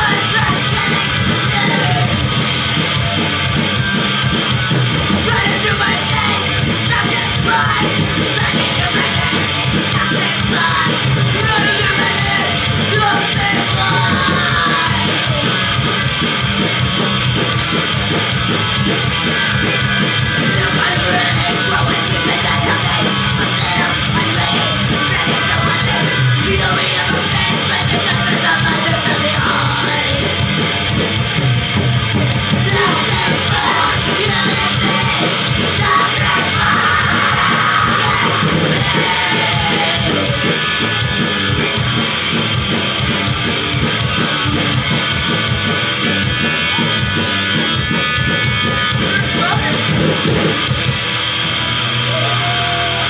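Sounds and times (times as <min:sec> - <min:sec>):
distorted electric guitars: 0:00.0 - 0:53.0
drums: 0:00.0 - 0:53.0.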